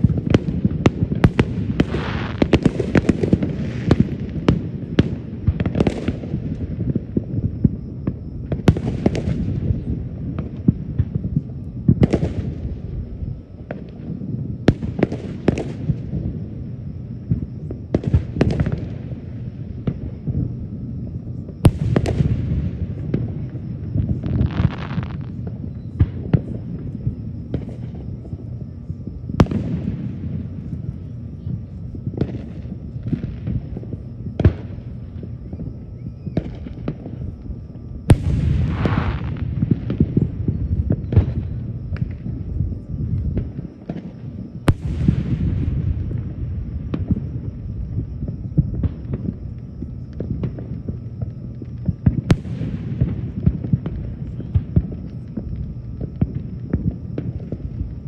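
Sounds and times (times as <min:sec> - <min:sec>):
fireworks booming: 0:00.0 - 0:58.0.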